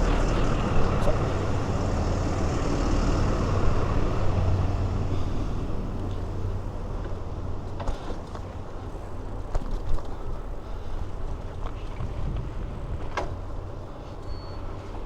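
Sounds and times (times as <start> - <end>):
road rumble: 0.0 - 15.0
vehicle engine hum: 0.0 - 15.0.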